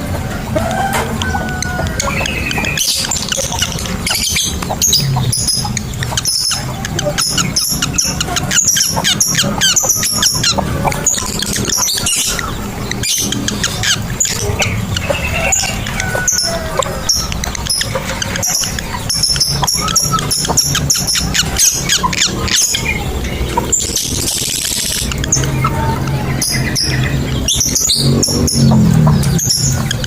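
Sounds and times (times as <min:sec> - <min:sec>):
lovebirds chirping and squeaking: 0:00.0 - 0:30.0.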